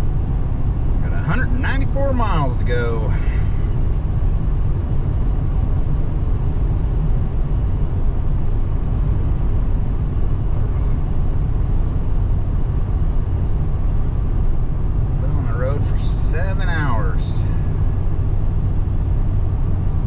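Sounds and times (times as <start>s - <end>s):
truck tyre and engine rumble: 0.0s - 20.0s.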